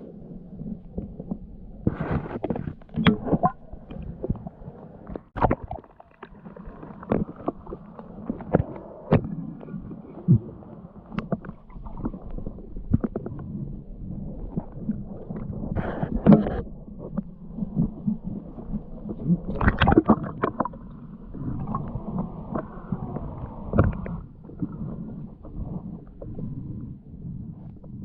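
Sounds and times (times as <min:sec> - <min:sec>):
low underwater rumble: 0:00.0 - 0:28.0
underwater knocks and clicks: 0:00.8 - 0:13.7, 0:14.3 - 0:26.9
bubbly gurgling rushes: 0:01.9 - 0:28.0.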